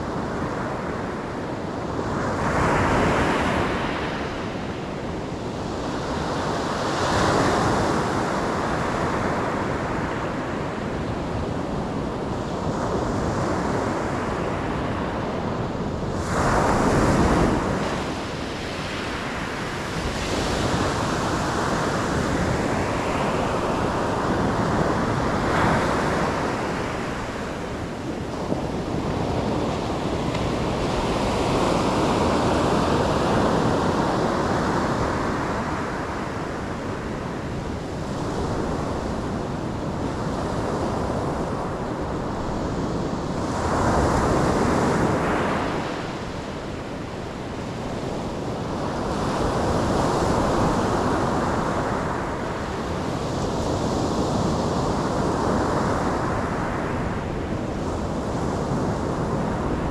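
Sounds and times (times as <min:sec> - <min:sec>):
ocean waves breaking on shore: 0:00.0 - 0:59.9
wind noise on microphone: 0:00.0 - 0:59.9.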